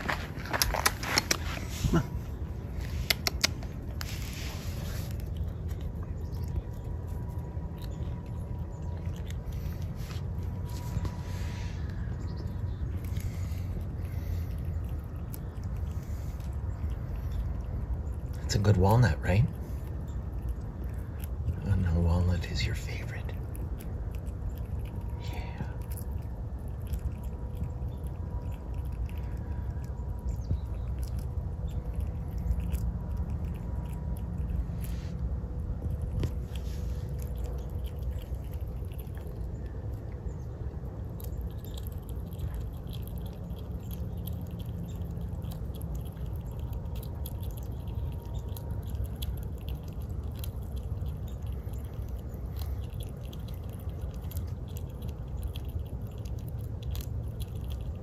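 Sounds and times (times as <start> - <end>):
low background rumble: 0.0 - 58.0
squirrel gnawing a nut: 0.0 - 58.0.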